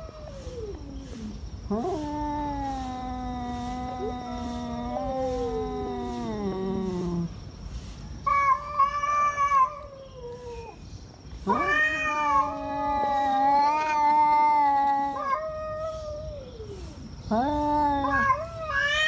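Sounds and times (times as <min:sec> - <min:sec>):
cats yowling: 0:00.0 - 0:07.3, 0:08.2 - 0:10.8, 0:11.4 - 0:19.0.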